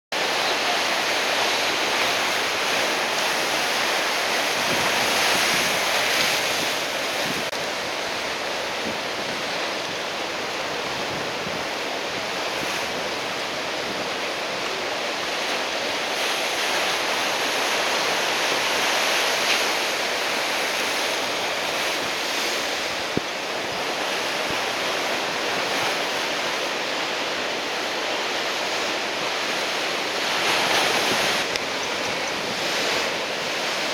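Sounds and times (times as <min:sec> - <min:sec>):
heavy surf breaking: 0:00.1 - 0:33.9.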